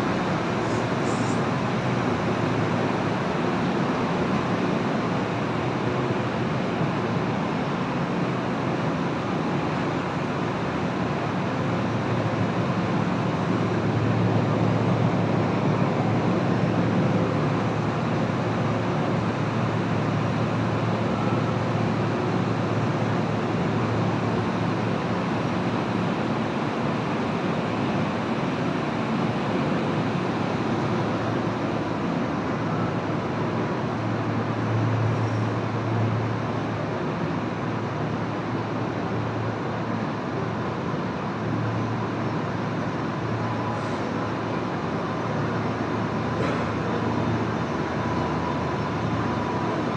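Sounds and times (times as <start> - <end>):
train rumbling at speed: 0.0 - 49.9.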